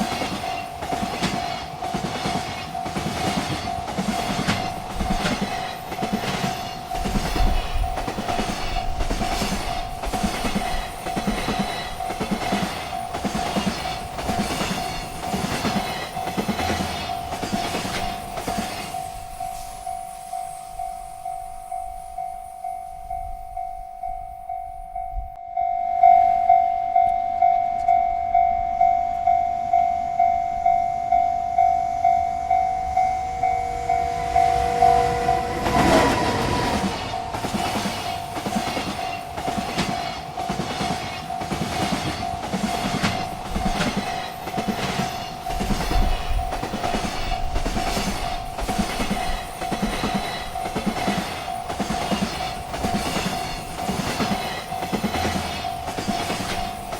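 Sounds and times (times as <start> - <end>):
freight train wheels clacking: 0.0 - 24.6, 26.9 - 56.9
railroad crossing bell ringing: 0.0 - 56.9.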